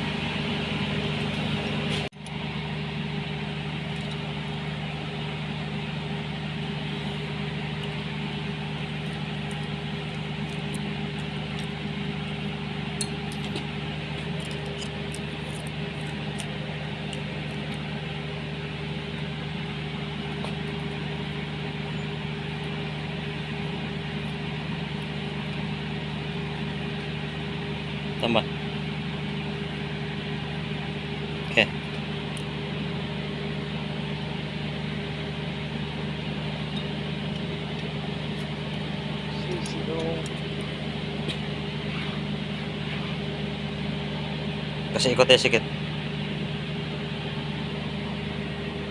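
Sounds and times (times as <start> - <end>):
motor humming: 0.0 - 48.9.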